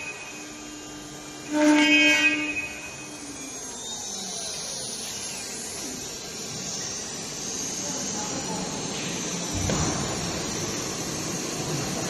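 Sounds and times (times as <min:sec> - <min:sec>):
router spindle whining: 0:00.0 - 0:12.0.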